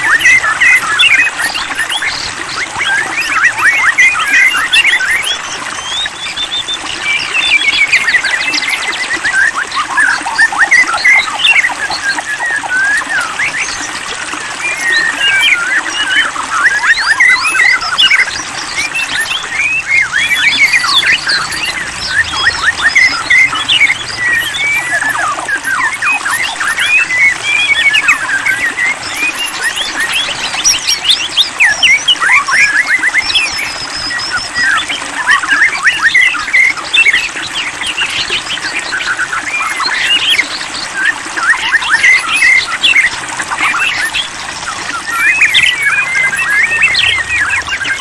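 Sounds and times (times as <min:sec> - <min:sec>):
bird singing whistled song: 0:00.0 - 0:48.0.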